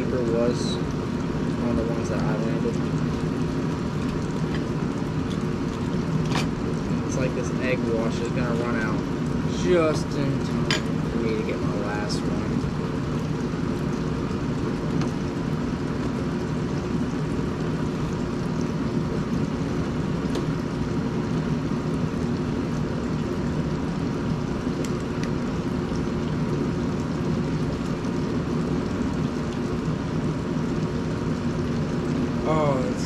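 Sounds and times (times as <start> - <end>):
bubbling oil in deep fryer: 0.0 - 33.0.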